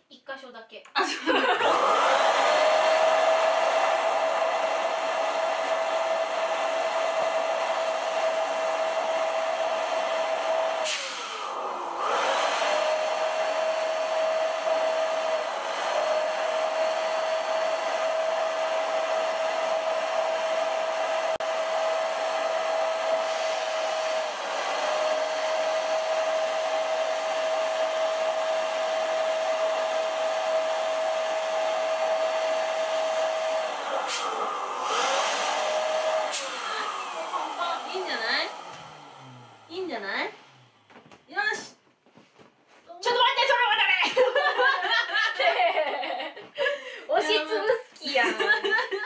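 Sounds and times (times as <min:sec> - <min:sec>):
electric air pump whining hum: 0:01.6 - 0:41.0.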